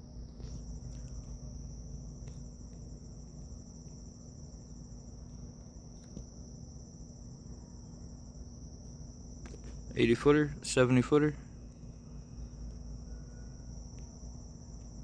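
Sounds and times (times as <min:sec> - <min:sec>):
crickets trilling: 0:00.0 - 0:15.0
low hum: 0:00.0 - 0:15.0.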